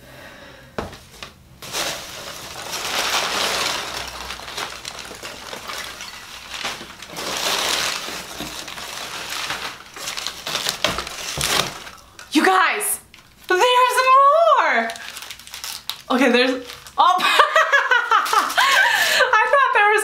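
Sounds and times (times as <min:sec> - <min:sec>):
packing material rustling: 0:01.0 - 0:12.4, 0:13.0 - 0:19.2.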